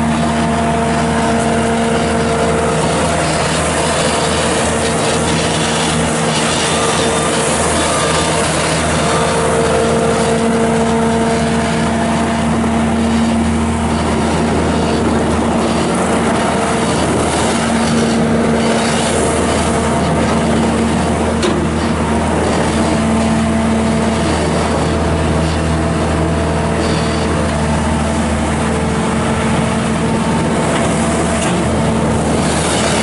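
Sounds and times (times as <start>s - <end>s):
diesel engine running: 0.0s - 33.0s
whine: 0.0s - 33.0s.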